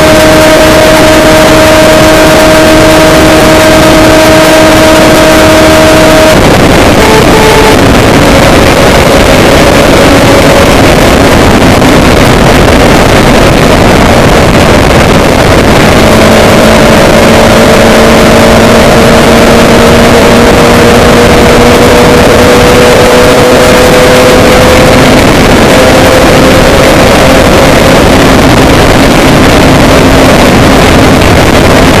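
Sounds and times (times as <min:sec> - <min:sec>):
engine drone: 0:00.0 - 0:32.0
heavy rushing noise: 0:00.0 - 0:32.0.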